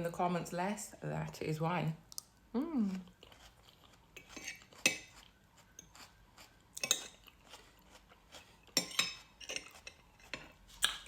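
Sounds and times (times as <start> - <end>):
person chewing food: 2.1 - 11.0.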